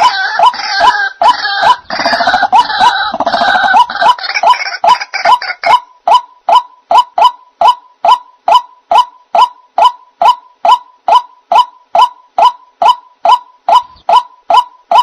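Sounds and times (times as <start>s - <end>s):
waterhen calling kwak notes: 0.0s - 15.0s.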